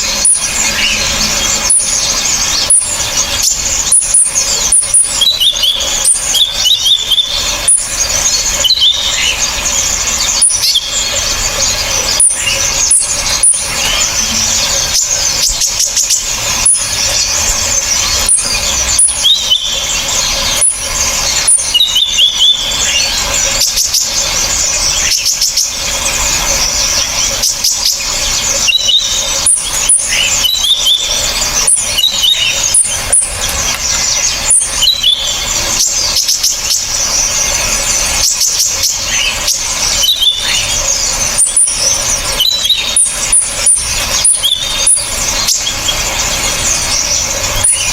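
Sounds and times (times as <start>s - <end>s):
small birds chirping shrilly: 0.0s - 47.9s.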